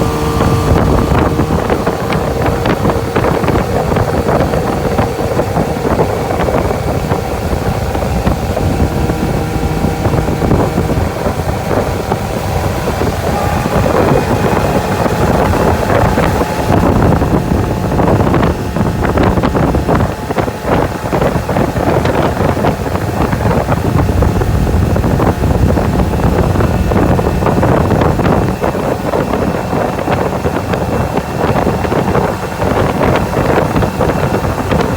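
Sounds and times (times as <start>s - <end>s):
outboard motor running: 0.0s - 34.9s
wind buffeting microphone: 0.0s - 34.9s.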